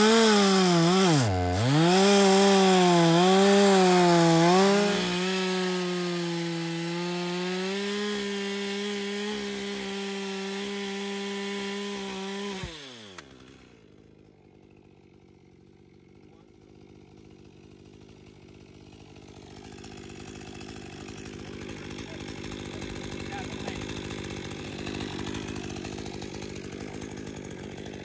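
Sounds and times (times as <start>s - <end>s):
chainsaw cutting at full throttle: 0.0s - 28.0s.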